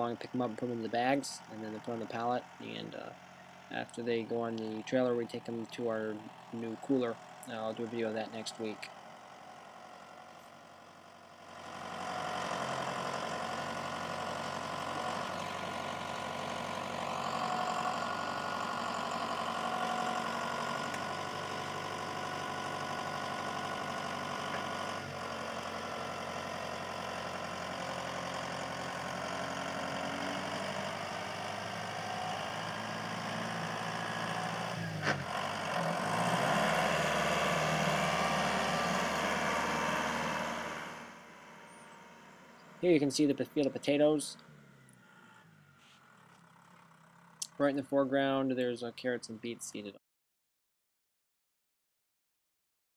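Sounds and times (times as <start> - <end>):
tractor engine running: 0.0 - 49.3.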